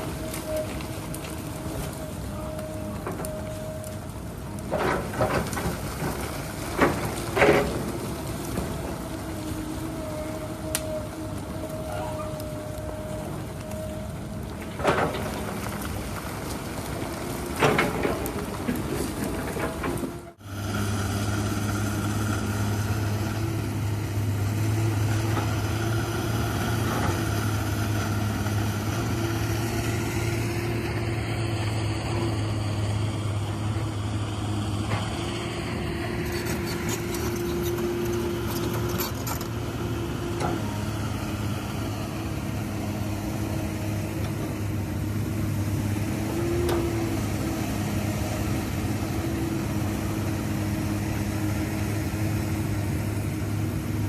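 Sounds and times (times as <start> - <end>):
excavator diesel engine humming: 0.0 - 54.0.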